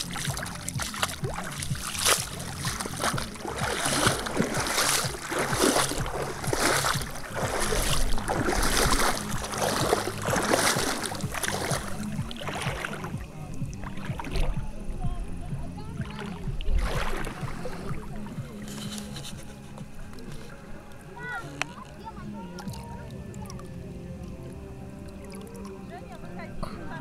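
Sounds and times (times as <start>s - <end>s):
water splashing against boat: 0.0s - 27.0s.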